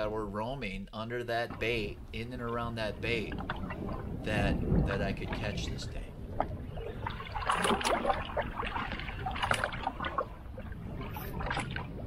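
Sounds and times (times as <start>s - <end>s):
water splashing against boat hull: 1.1s - 12.0s
wind rumble on microphone: 1.3s - 12.0s.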